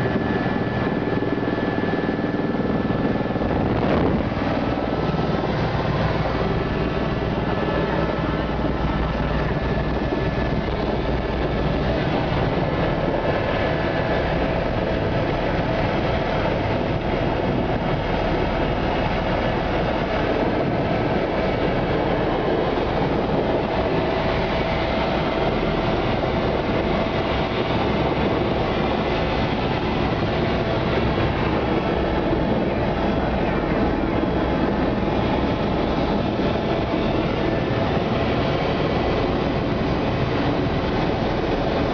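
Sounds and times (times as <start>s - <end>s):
helicopter engine and rotor drone: 0.0s - 41.9s.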